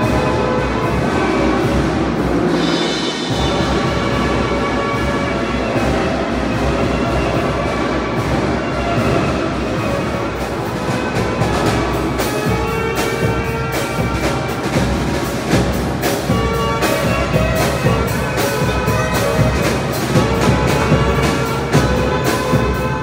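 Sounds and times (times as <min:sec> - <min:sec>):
bass drum and snare beat: 0:00.0 - 0:23.0
brass horns holding notes: 0:00.0 - 0:23.0.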